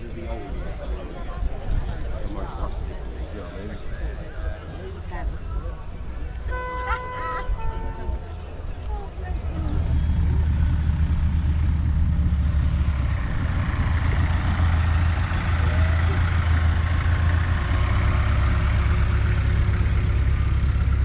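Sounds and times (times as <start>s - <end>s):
rough high engine noise: 1.5s - 21.0s
vehicle engine idling: 3.7s - 21.0s.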